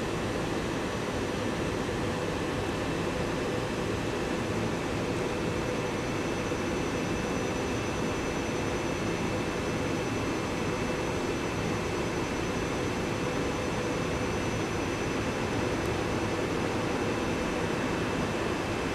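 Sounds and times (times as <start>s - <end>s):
electric railcar hum and whine: 0.0s - 18.9s.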